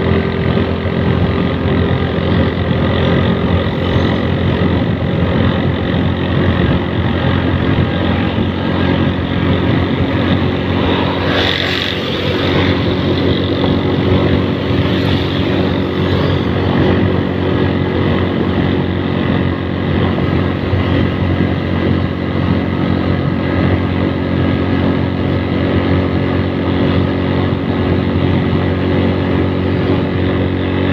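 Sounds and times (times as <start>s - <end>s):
road noise: 0.0s - 30.9s
vehicle engine running: 0.0s - 30.9s.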